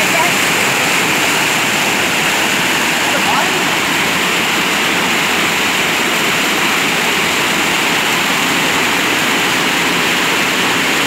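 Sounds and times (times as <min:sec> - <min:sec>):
river water pouring over weir: 0:00.0 - 0:11.0.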